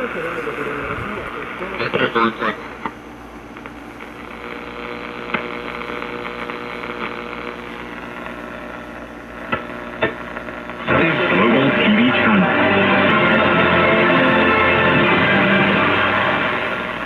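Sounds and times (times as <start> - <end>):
radio hissing and humming: 0.0 - 17.0
radio static crackles: 0.0 - 17.0.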